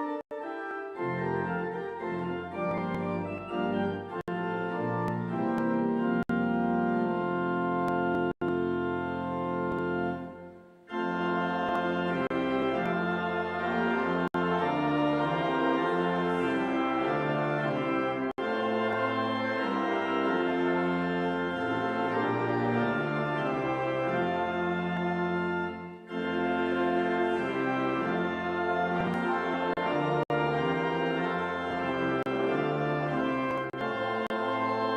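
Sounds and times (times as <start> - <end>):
organ playing sustained chords: 0.0 - 34.9.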